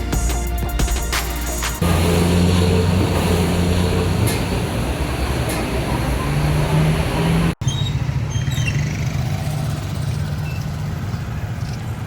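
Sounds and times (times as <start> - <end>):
vehicle engine running: 1.8 - 12.0.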